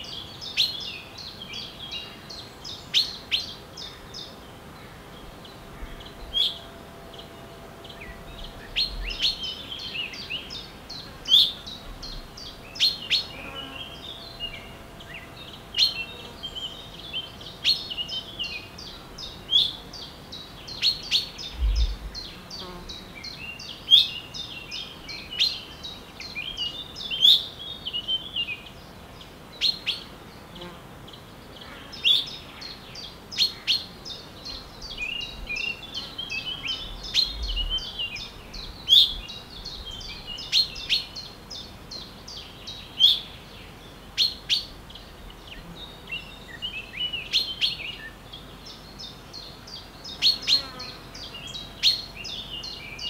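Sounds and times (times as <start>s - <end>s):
songbirds chirping and trilling: 0.0s - 53.0s.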